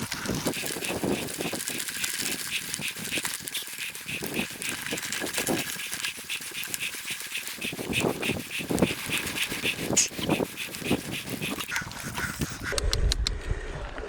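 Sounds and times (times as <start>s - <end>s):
bike rattling on dirt trail: 0.0s - 12.4s.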